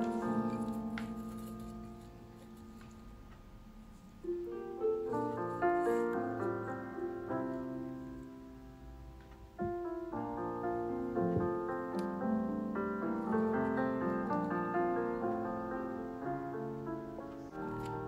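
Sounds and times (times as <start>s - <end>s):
gentle piano piece: 0.0s - 18.0s.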